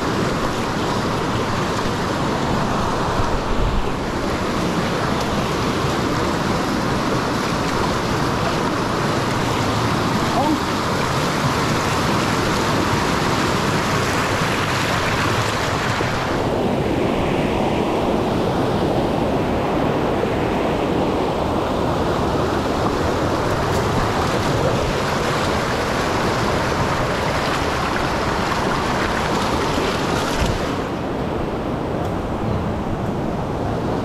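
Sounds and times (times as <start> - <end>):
river rapids rushing: 0.0 - 34.0.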